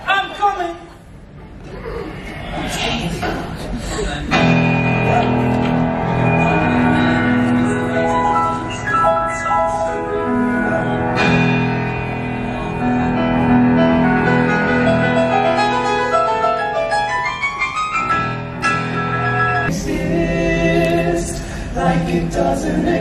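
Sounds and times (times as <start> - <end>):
upright piano chords: 4.3 - 23.0.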